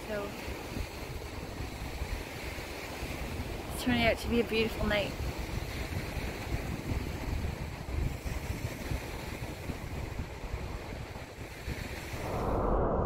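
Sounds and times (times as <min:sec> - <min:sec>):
lake waves washing onto sand: 0:00.0 - 0:12.3
wind gusting over microphone: 0:00.0 - 0:13.0.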